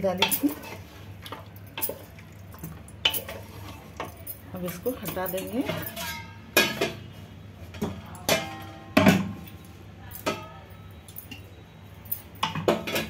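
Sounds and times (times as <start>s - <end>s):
metal pot clanking: 0.0s - 10.6s, 12.2s - 13.0s.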